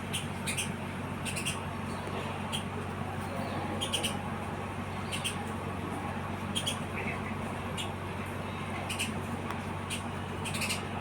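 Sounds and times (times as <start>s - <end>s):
sparrows chirping: 0.0s - 5.7s, 6.4s - 8.0s, 8.8s - 11.0s
steady low hum: 0.0s - 11.0s.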